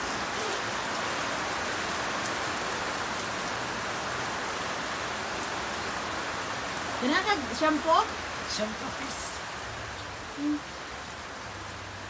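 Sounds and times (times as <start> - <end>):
close raindrops ticking: 0.0 - 12.0
steady rain hiss: 0.0 - 12.0.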